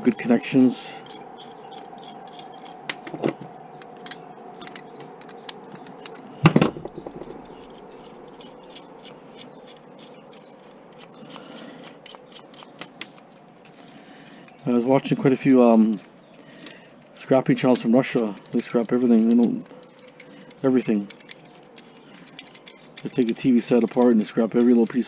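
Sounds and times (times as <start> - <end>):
faint steady hum: 0.0 - 25.0
small metal parts clicking: 1.0 - 25.0.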